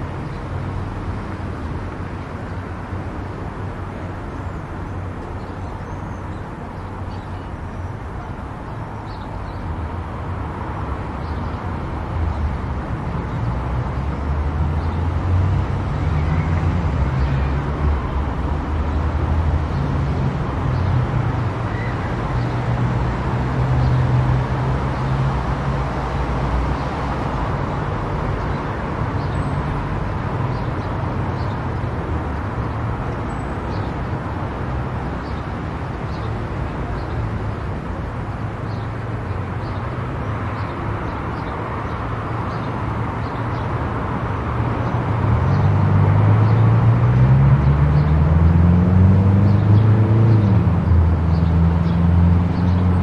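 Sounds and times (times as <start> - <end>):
car tyre and engine noise: 0.0 - 53.0.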